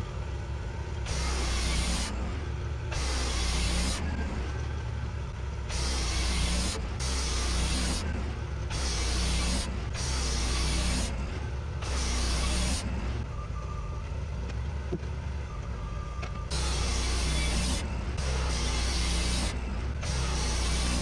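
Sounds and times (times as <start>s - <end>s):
sawmill engine humming: 0.0s - 21.0s.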